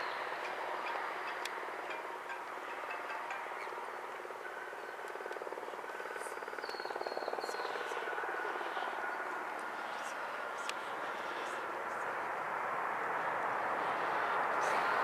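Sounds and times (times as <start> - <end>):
distant jet engines roaring: 0.0 - 15.0.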